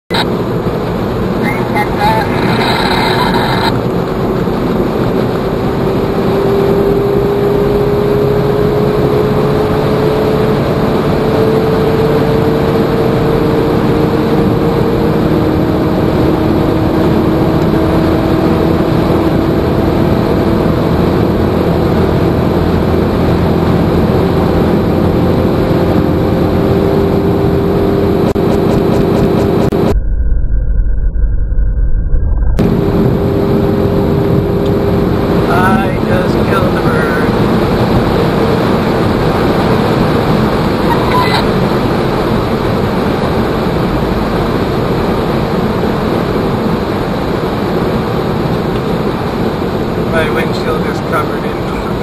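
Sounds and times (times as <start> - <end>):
car engine accelerating: 0.1 - 30.0, 32.2 - 52.0
wind and tyre noise: 0.1 - 52.0.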